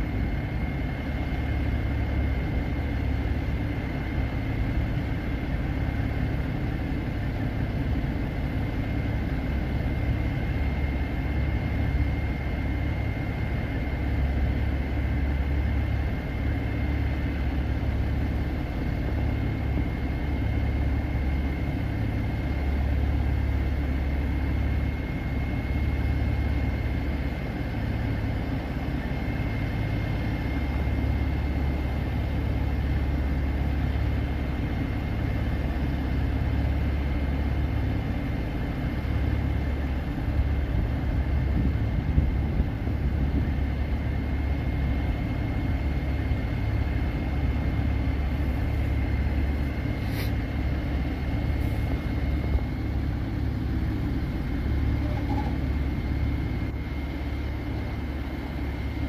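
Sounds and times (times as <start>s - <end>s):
diesel engine running: 0.0s - 59.0s
faint high whine: 0.0s - 59.0s.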